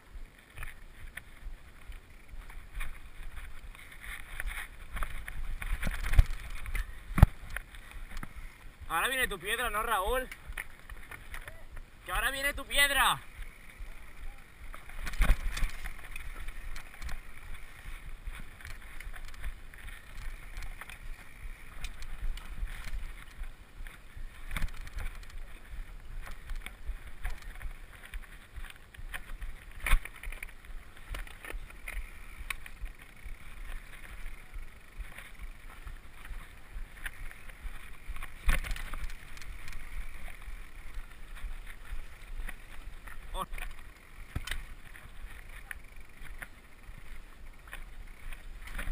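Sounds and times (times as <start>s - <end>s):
bike rattling over stones: 0.0s - 48.9s
bike tyres rumbling on trail: 0.0s - 48.9s.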